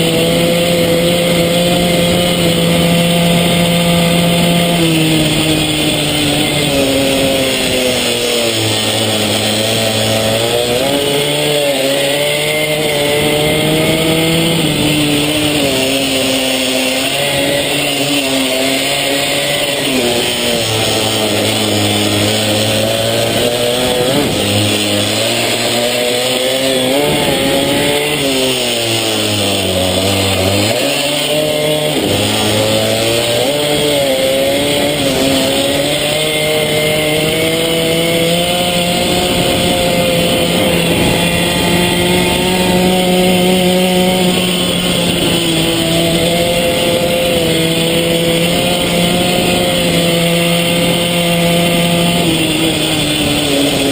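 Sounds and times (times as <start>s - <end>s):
small motorbike engine revving: 0.0s - 53.9s.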